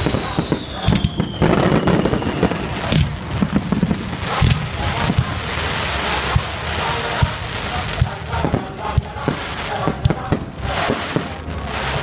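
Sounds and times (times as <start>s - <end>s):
fireworks booming: 0.0s - 12.0s
fireworks crackling hiss: 0.0s - 12.0s.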